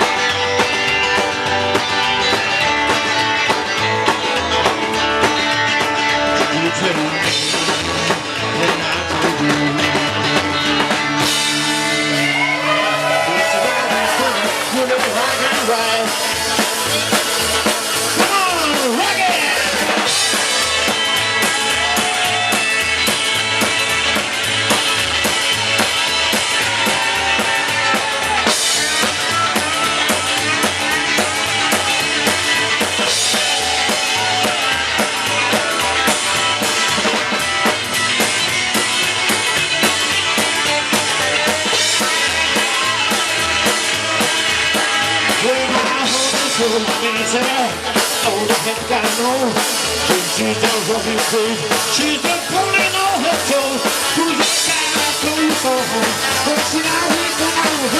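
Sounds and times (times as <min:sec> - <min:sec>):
drum kit beat: 0:00.0 - 0:57.9
rock band playing instrumental: 0:00.0 - 0:57.9.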